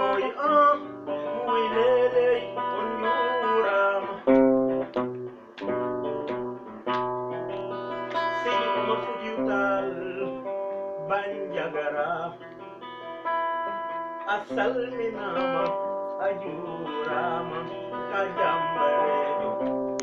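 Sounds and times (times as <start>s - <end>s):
acoustic guitar finger-picked: 0.0s - 20.0s.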